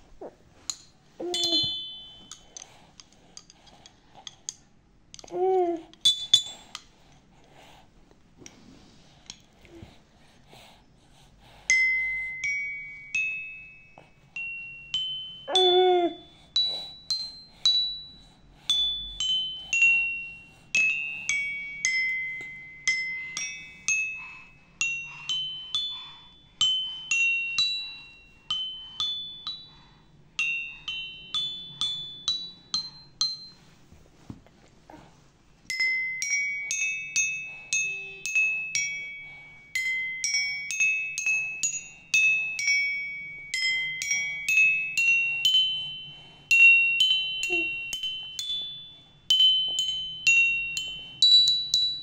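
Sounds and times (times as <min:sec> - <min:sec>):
toy xylophone notes: 0:00.7 - 0:06.8, 0:11.7 - 0:29.8, 0:30.4 - 0:33.6, 0:35.7 - 0:52.0.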